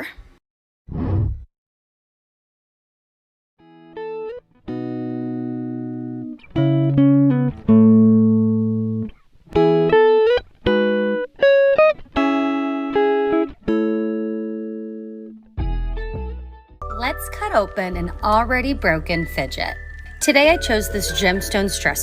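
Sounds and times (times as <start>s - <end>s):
plucked guitar chords: 3.6s - 22.0s.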